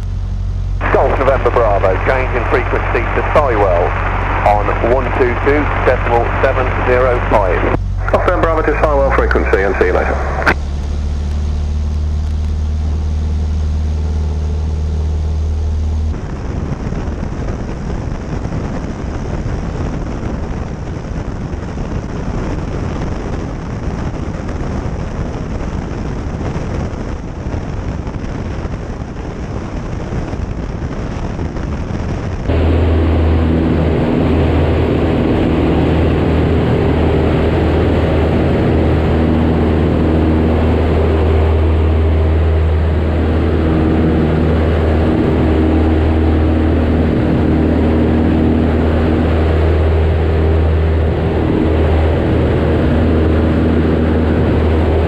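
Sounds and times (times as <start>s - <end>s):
airplane engine droning in flight: 0.0s - 55.0s.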